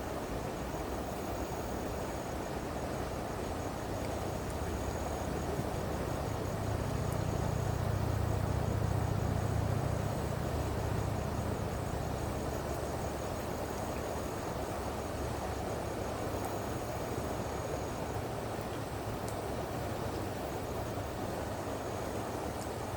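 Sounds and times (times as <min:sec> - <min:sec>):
shallow river rushing: 0:00.0 - 0:22.9.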